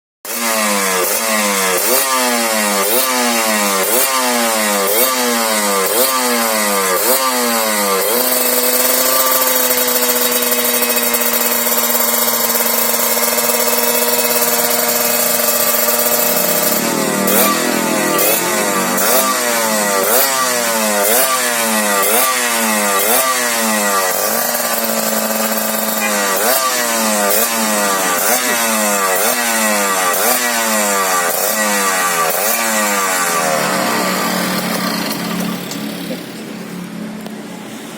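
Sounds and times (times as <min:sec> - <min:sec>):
motorcycle engine revving: 0:00.3 - 0:37.9.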